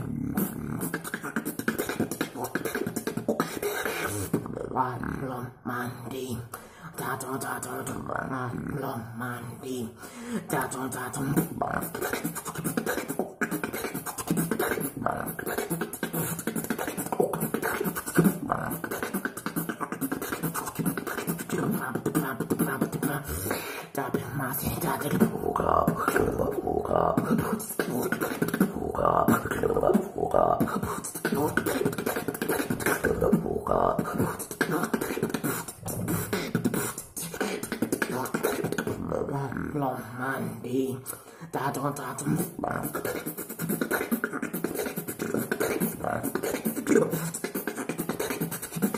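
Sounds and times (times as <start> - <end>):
person beatboxing: 0.0 - 48.9.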